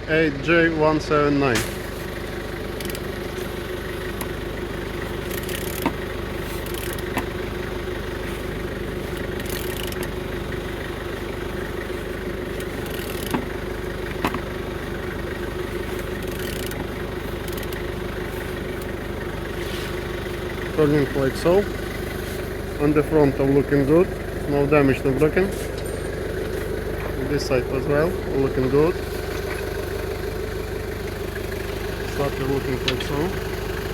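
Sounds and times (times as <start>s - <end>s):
steady mechanical hum: 0.0s - 33.9s.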